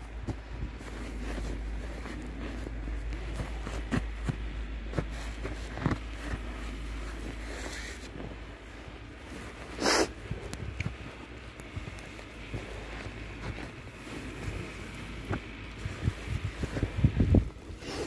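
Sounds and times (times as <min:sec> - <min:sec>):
crunches in deep snow: 0:00.0 - 0:18.0
wind rumble on microphone: 0:00.0 - 0:18.0.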